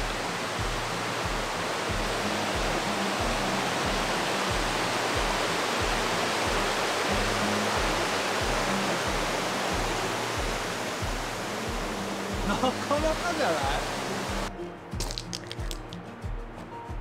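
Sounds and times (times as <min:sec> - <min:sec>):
stream and waterfall rushing: 0:00.0 - 0:15.9
soft music with bass pulse: 0:00.0 - 0:17.0.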